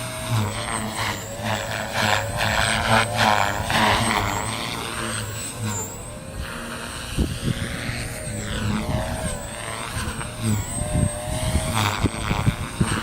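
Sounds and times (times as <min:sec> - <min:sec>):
rc helicopter motor whine: 0:00.0 - 0:13.0
rotor humming: 0:00.0 - 0:13.0
wind rushing over microphone: 0:00.0 - 0:13.0.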